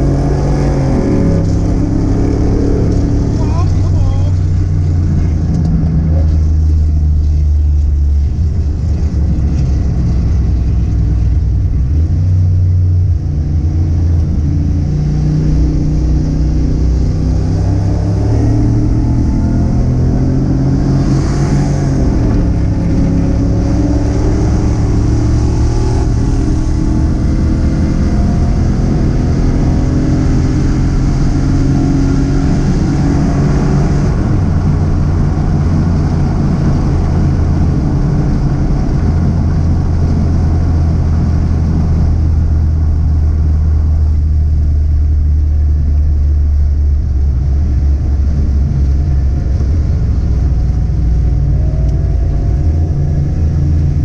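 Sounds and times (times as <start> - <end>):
car engine and exhaust running: 0.0 - 54.0.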